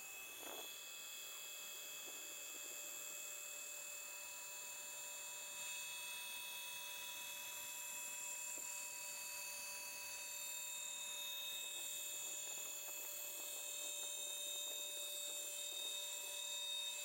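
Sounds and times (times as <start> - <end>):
lathe whine: 0.0 - 17.0.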